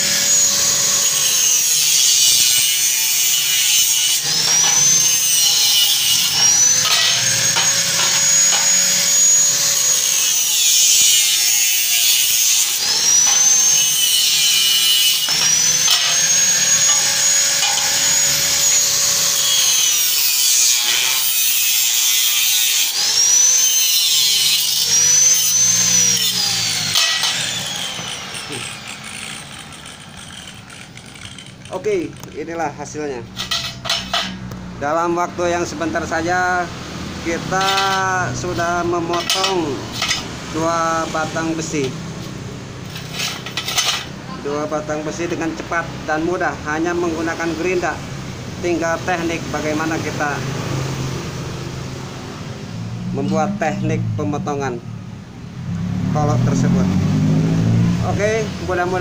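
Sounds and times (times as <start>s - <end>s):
angle grinder cutting steel: 0.0s - 51.6s, 56.5s - 59.0s.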